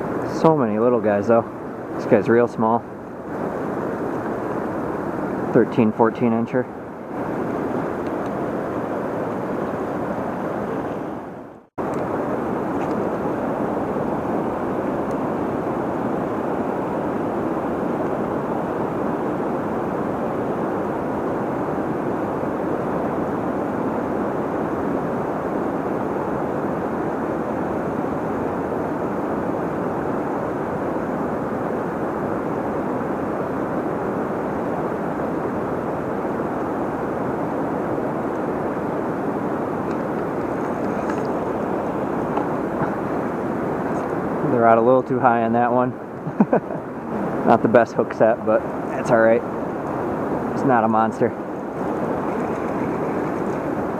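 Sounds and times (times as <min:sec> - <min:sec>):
river water rushing: 0:06.7 - 0:44.7, 0:46.0 - 0:47.8, 0:48.4 - 0:53.9.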